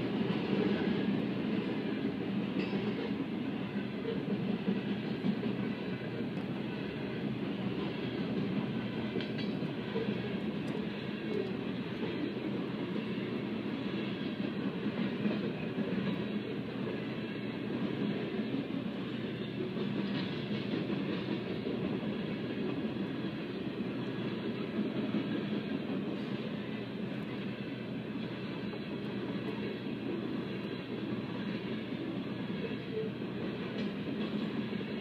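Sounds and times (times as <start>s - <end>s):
train wheels on track: 0.0s - 35.0s.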